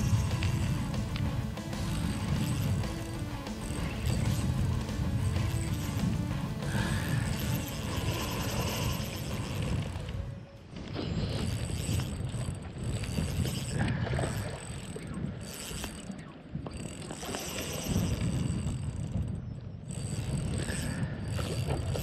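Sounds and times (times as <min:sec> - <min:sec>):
fishing reel gears whirring: 0:00.0 - 0:22.0
wind rumbling on microphone: 0:00.0 - 0:22.0.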